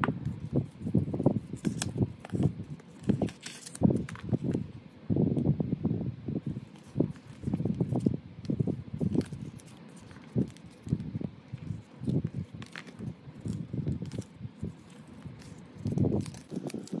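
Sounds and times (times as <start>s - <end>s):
paper cards rustling and tapping: 0.0s - 4.6s, 6.6s - 17.0s.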